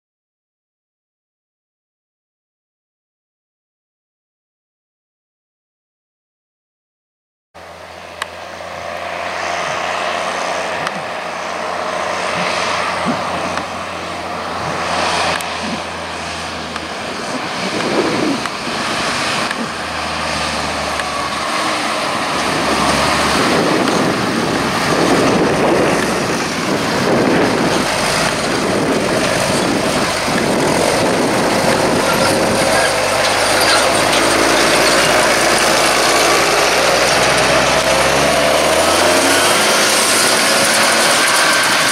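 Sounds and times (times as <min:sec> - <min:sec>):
tractor diesel engine running: 0:07.6 - 0:41.9.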